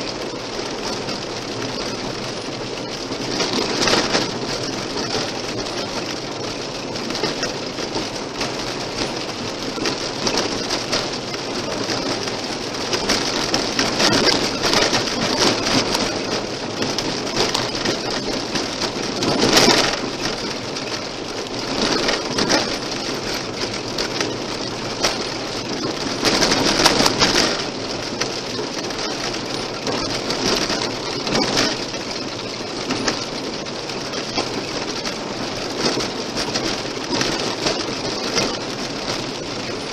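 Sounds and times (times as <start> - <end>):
car tyres on gravel road: 0.0 - 39.9.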